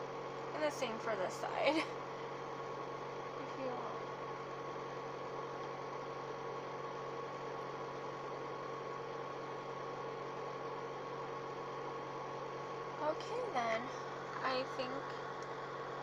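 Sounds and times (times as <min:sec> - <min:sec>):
background hum with hiss: 0:00.0 - 0:16.0.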